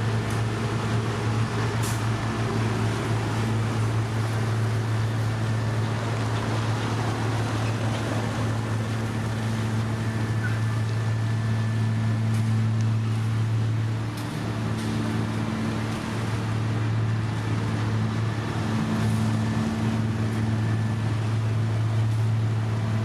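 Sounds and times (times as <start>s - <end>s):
heavy machinery diesel engine: 0.0s - 23.0s.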